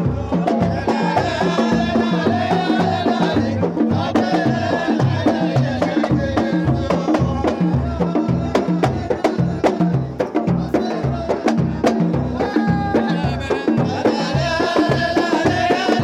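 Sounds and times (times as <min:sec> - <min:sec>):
frame drums beating: 0:00.0 - 0:16.0
group singing: 0:00.0 - 0:16.0.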